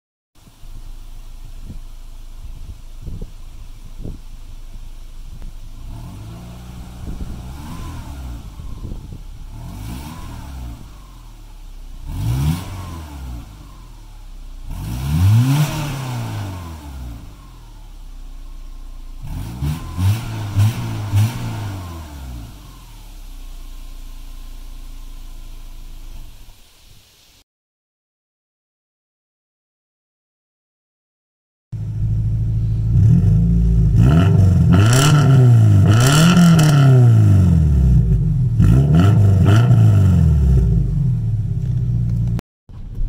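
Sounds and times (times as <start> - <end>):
car engine idling and revving: 0.4 - 26.6, 31.8 - 43.0.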